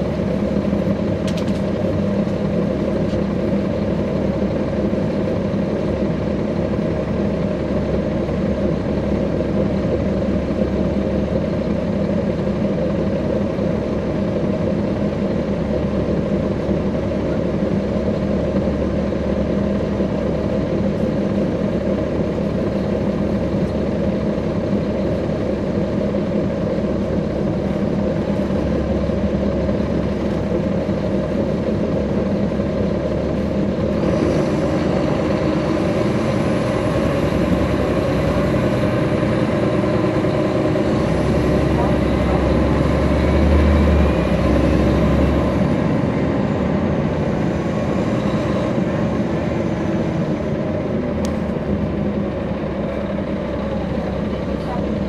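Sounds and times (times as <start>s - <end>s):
bus diesel engine droning: 0.0s - 55.0s.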